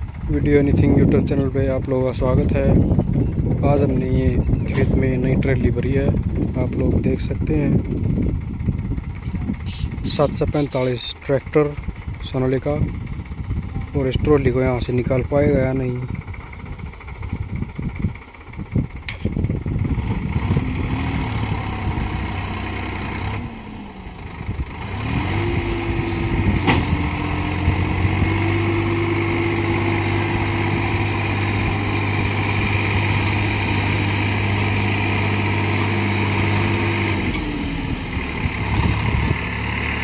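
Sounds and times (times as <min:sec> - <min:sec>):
tractor diesel engine pulling: 0:00.0 - 0:40.0.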